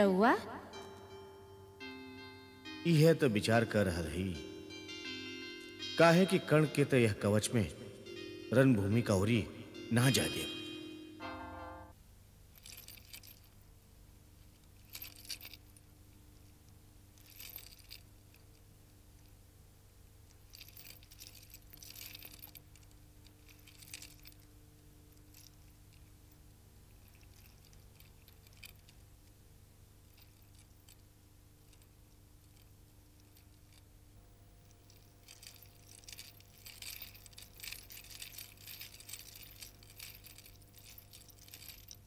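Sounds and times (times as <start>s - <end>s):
low steady hum: 0.0s - 42.0s
faint metallic jingling: 0.8s - 42.0s.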